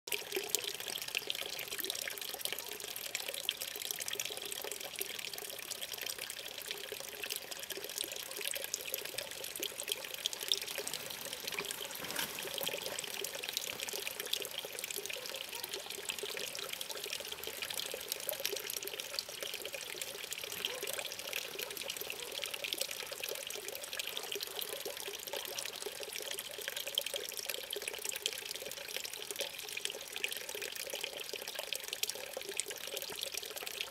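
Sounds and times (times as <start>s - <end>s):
water trickling and splashing: 0.1s - 33.9s.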